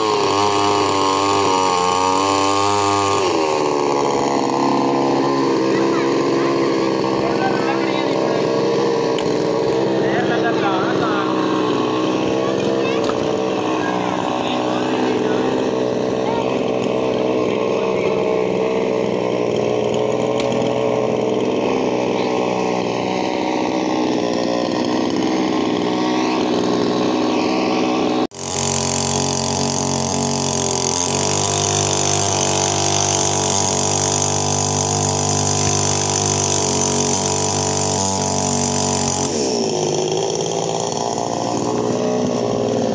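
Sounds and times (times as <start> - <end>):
chainsaw cutting logs: 0.0 - 42.9.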